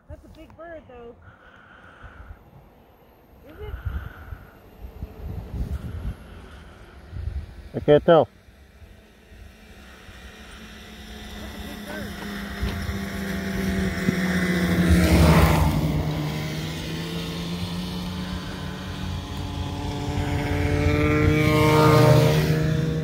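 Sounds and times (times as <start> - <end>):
motor vehicles driving past: 0.1 - 23.0.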